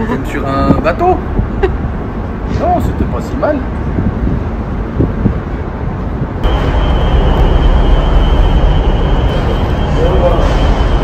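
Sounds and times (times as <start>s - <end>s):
constant high whine: 0.0s - 11.0s.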